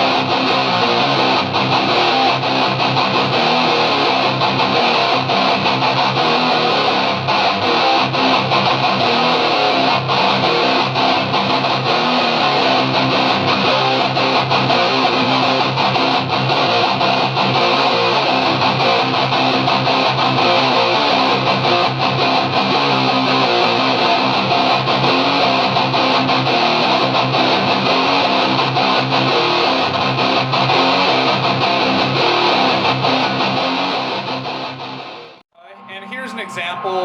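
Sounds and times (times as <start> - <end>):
distorted electric guitar: 0.0 - 37.0.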